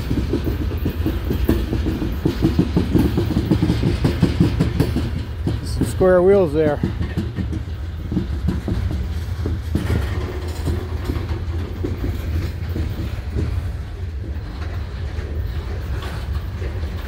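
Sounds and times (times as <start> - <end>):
freight cars rumbling on rails: 0.0 - 17.0
wheels clacking and knocking: 0.0 - 17.0.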